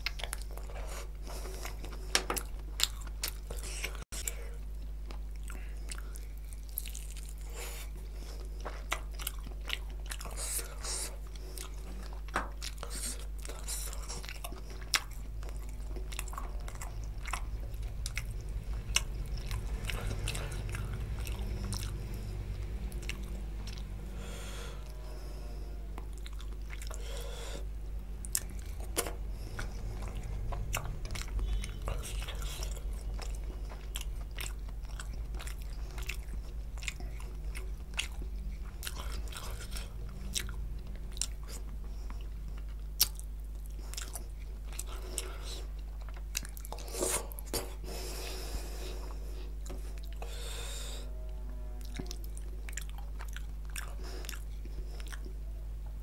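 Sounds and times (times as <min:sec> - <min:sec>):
person chewing: 0:00.0 - 0:51.1, 0:51.8 - 0:56.0
low hum: 0:00.0 - 0:56.0.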